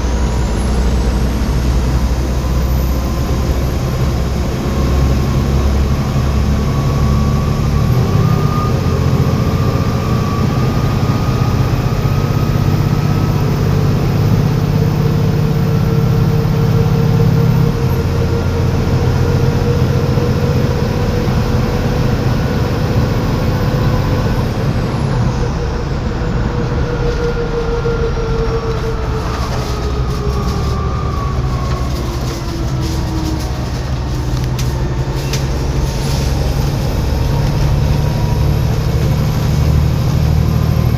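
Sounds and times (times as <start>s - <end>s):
high turbo whistle: 0.0s - 13.7s, 15.4s - 40.9s
diesel bus engine running: 0.0s - 40.9s.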